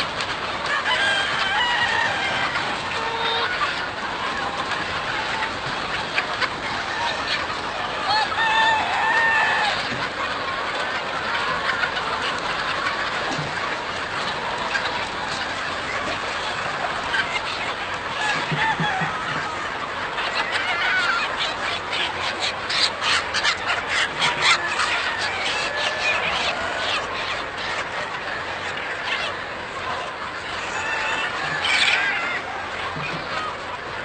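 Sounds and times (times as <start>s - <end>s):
chickens clucking and squawking: 0.0s - 34.0s.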